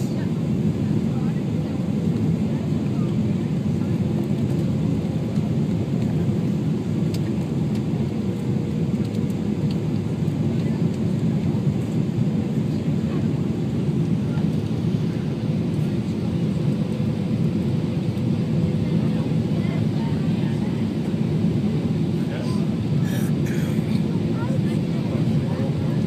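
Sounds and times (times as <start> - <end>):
jet engine drone: 0.0 - 26.0.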